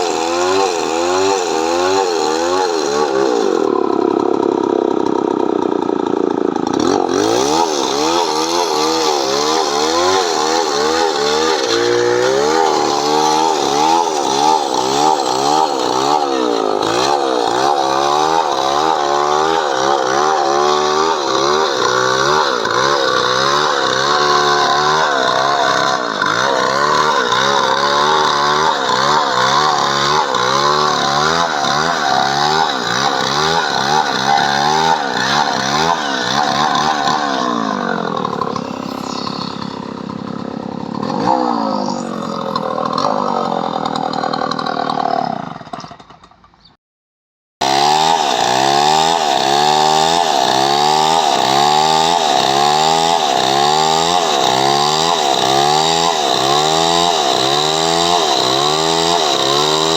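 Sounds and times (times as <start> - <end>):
chainsaw cutting wood: 0.0 - 46.7, 47.6 - 59.9.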